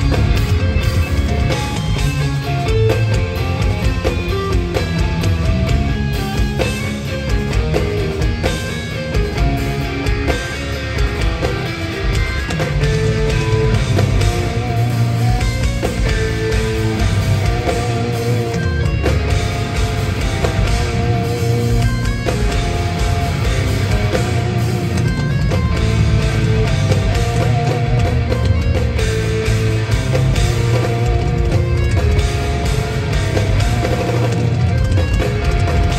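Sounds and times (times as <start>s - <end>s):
drum kit: 0.0s - 35.9s
electric guitars playing fast runs: 0.0s - 35.9s.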